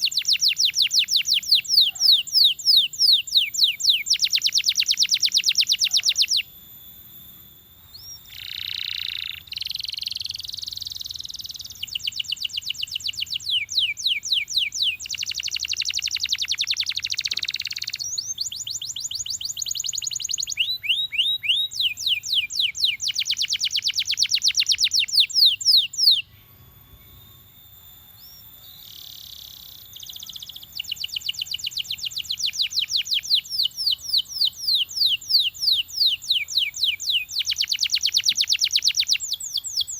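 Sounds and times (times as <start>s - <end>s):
canary singing trills: 0.0s - 6.6s, 7.3s - 27.5s, 28.1s - 39.9s.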